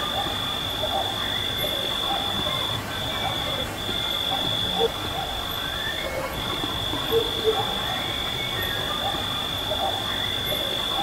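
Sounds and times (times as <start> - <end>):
faint wavering whistling: 0.0 - 11.0.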